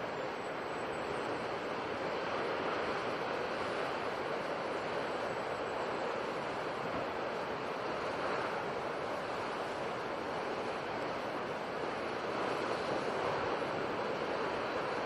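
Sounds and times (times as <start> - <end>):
sea surf washing in: 0.0 - 15.0.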